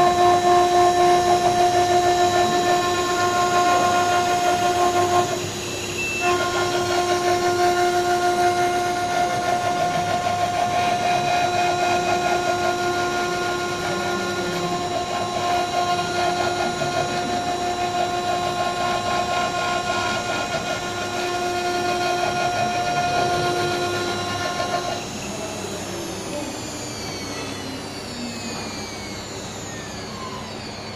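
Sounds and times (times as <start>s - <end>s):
milling machine spindle whine: 0.0s - 30.9s
cutting brick noise: 0.3s - 25.7s.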